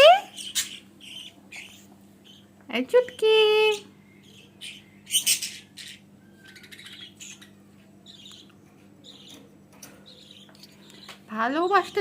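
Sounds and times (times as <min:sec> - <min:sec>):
faint steady hum: 0:00.0 - 0:12.0
budgerigars chirping: 0:00.1 - 0:12.0.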